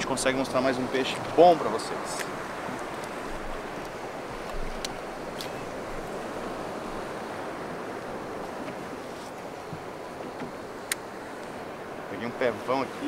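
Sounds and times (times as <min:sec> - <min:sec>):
water lapping around boat: 0:00.0 - 0:13.0
wind rumbling on microphone: 0:00.0 - 0:13.0.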